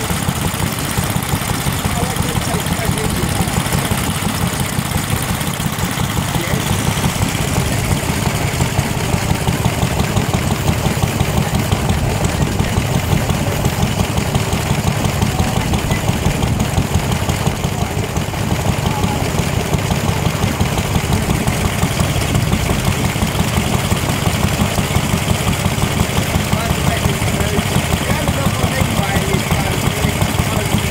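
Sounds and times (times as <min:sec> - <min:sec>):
stationary engine running: 0:00.0 - 0:30.9.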